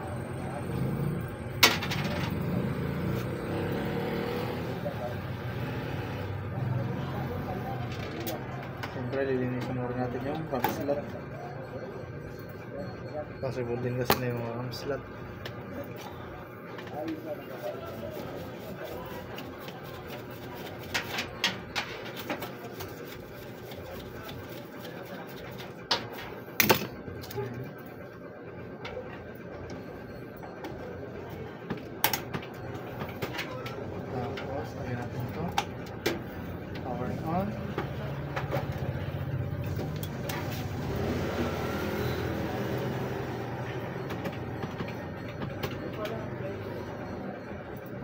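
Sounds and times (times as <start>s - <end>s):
computer fans whirring: 0.0s - 48.0s.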